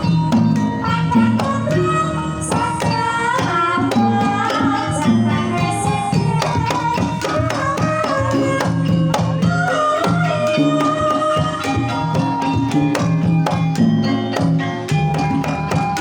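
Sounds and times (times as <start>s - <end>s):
woman singing: 0.0s - 13.2s
hand drum beating: 0.0s - 16.0s
ringing gamelan instruments: 0.0s - 16.0s.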